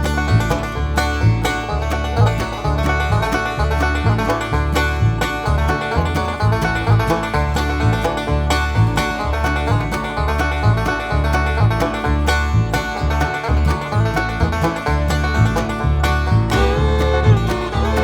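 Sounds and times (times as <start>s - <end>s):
bluegrass music with banjo: 0.0s - 18.0s.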